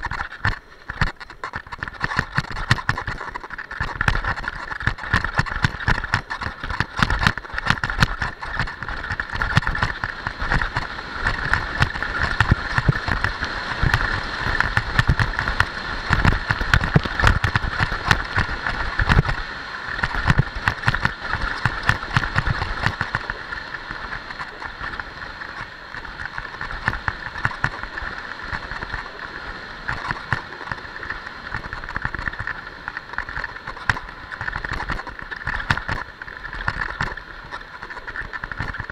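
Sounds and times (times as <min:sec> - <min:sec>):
skis scraping over snow: 0:00.0 - 0:38.9
wind buffeting microphone: 0:01.5 - 0:38.9.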